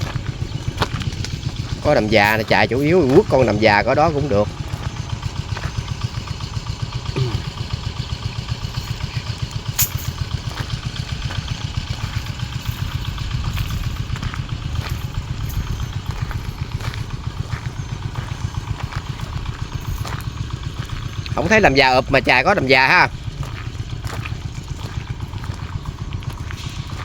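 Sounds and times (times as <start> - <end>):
small engine running: 0.0 - 27.0.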